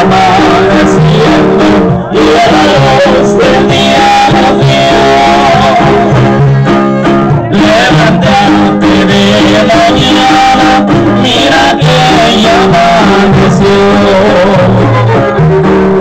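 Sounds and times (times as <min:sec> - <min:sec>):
loud guitar music: 0:00.0 - 0:16.0.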